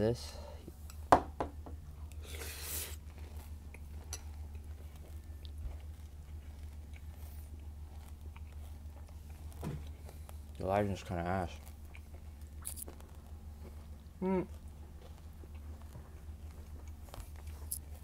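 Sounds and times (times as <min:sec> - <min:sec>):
steady low hum: 0:00.0 - 0:18.0
chewing cereal crunches: 0:03.0 - 0:18.0.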